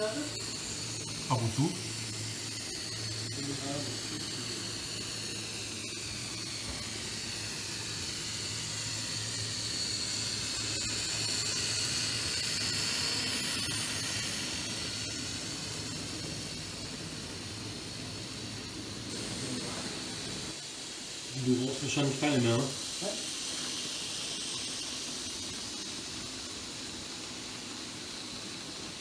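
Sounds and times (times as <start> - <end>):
model train motor whine: 0.0 - 29.0
wheels hissing on track: 0.0 - 29.0.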